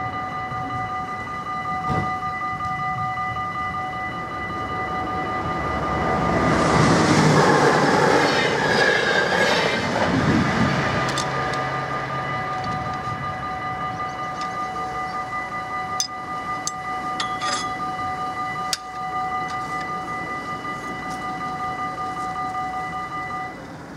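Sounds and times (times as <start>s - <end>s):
level crossing warning bells: 0.0s - 23.9s
passenger train passing: 0.0s - 23.9s.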